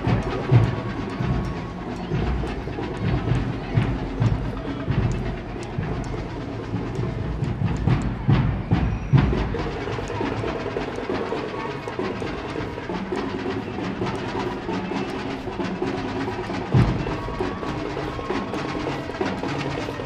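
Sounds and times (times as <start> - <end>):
parade drums and percussion: 0.0 - 20.0.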